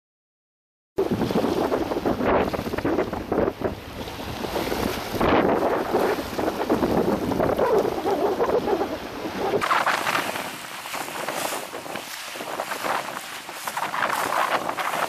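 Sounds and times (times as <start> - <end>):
waves washing against rocks: 1.0 - 15.0
wind buffeting microphone: 1.0 - 15.0.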